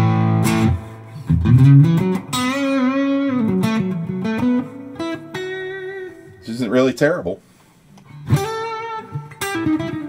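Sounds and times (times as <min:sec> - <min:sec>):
overdriven electric guitar: 0:00.0 - 0:06.4, 0:07.9 - 0:10.0.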